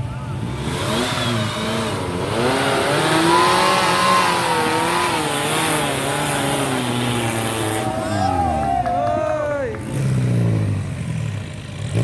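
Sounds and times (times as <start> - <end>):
vehicle engine revving: 0.0 - 9.0, 9.6 - 12.0.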